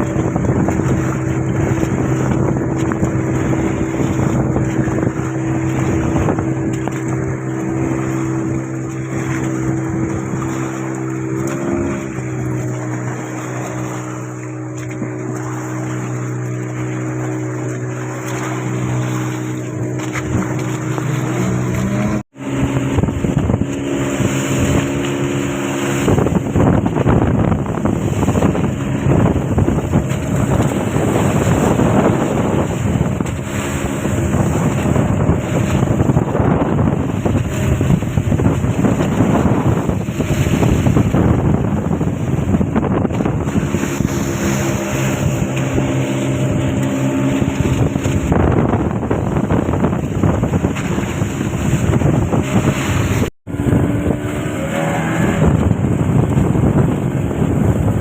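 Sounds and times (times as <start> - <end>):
boat engine running: 0.0 - 58.0
waves splashing: 0.0 - 58.0
wind buffeting microphone: 0.0 - 58.0.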